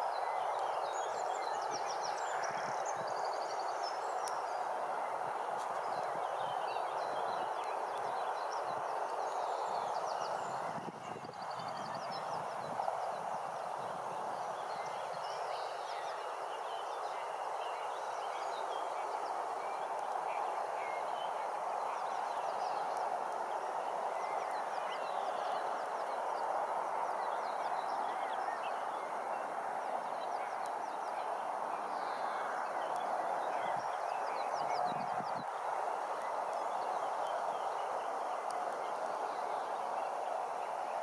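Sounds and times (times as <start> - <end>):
steady hiss: 0.0 - 41.0.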